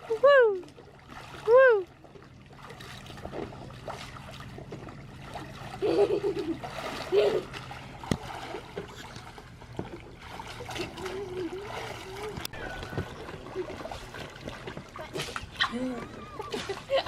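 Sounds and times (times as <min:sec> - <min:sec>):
water splashing in a pool: 0:00.0 - 0:17.0.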